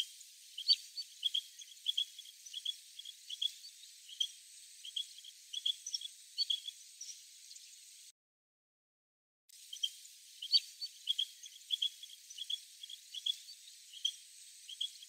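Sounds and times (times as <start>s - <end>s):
quail chirping: 0.0s - 7.6s, 9.7s - 15.0s.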